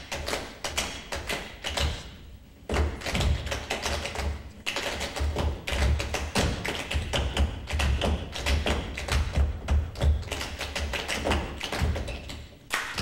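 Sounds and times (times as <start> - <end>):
tap shoes on stage floor: 0.0 - 13.0.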